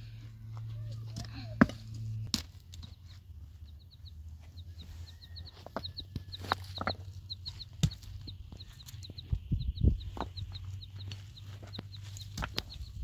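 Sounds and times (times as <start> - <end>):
birds chirping: 1.9 - 13.0.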